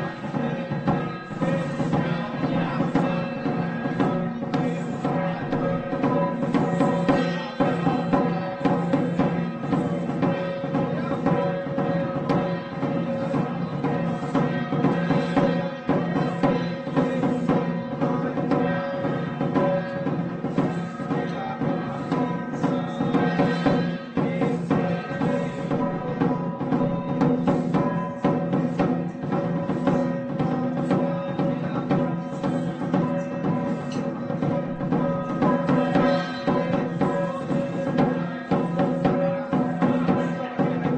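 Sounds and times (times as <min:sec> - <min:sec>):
drums and percussion beating: 0:00.0 - 0:40.9.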